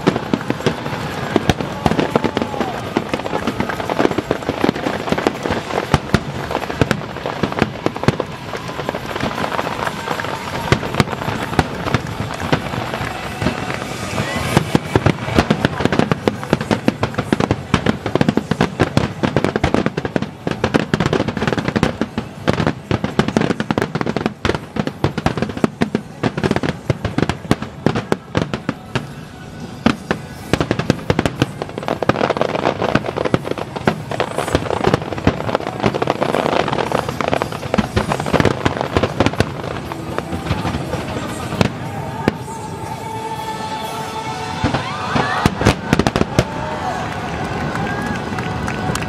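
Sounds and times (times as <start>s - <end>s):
fireworks bursting and crackling: 0.0s - 49.0s.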